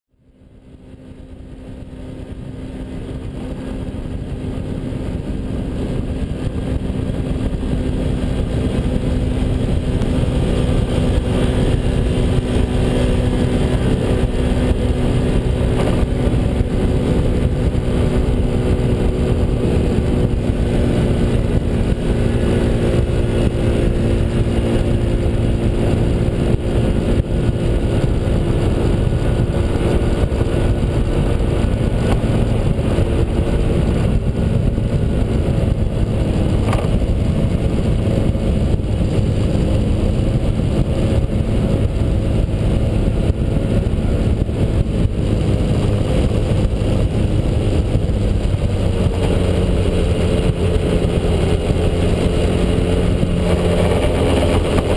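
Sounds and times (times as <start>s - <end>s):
scooter engine hum: 0.1s - 54.9s
rush of wind noise: 0.2s - 54.9s.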